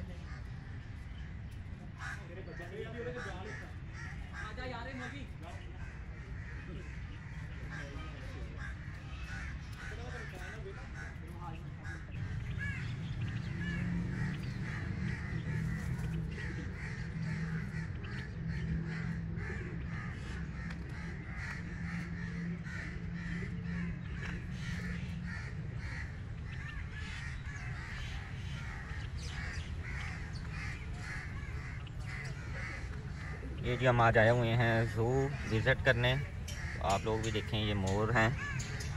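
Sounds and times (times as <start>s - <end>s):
birds calling: 0.0s - 38.9s.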